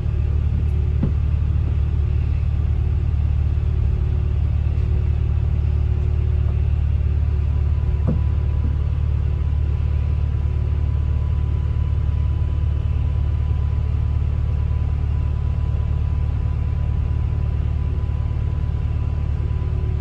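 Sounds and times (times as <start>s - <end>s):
bus interior rumble: 0.0s - 20.0s.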